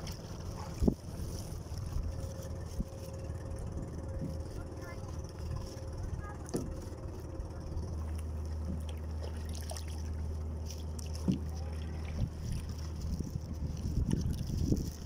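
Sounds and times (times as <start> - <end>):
low rumble: 0.0 - 15.0
paddle strokes in water: 0.0 - 15.0.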